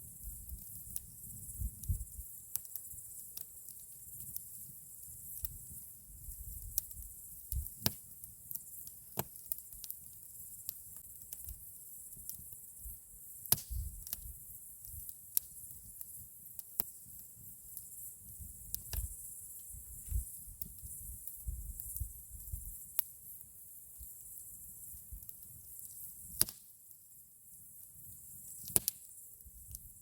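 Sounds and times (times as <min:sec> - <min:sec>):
campfire crackling: 0:00.0 - 0:30.0.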